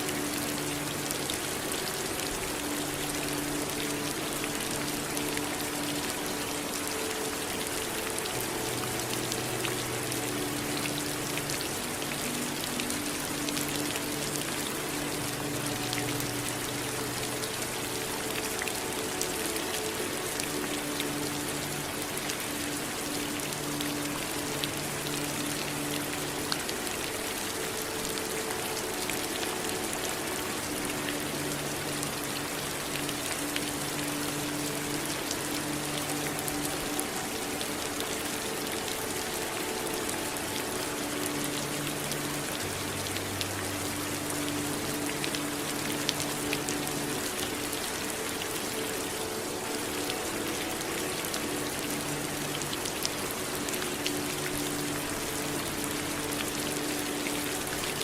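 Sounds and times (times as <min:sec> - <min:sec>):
raindrops ticking on a surface: 0:00.0 - 0:58.0
steady rain hiss: 0:00.0 - 0:58.0.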